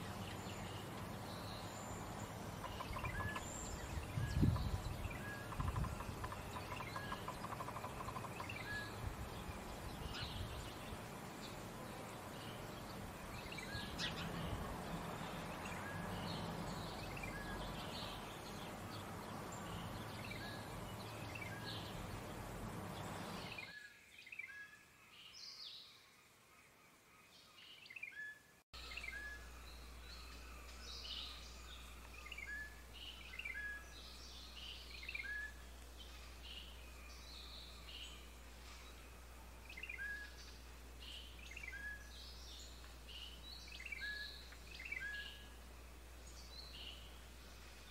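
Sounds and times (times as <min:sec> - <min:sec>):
small birds chirping: 0:00.0 - 0:26.0, 0:27.4 - 0:47.9
outdoor background hiss: 0:00.0 - 0:47.9.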